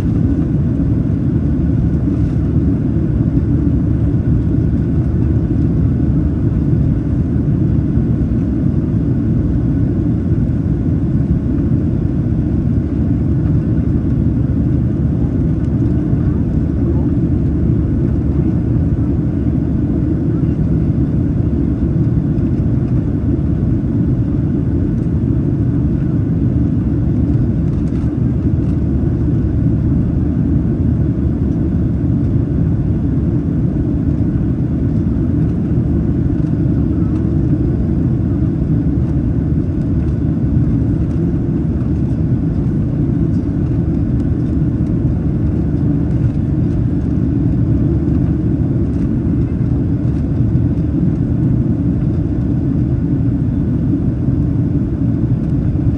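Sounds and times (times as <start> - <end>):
airplane cabin engine roar: 0.0 - 55.9.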